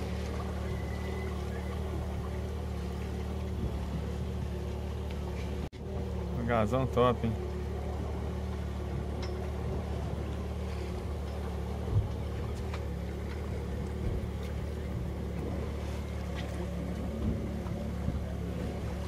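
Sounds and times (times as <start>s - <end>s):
boat engine running: 0.0s - 19.0s
water noise: 0.0s - 19.0s.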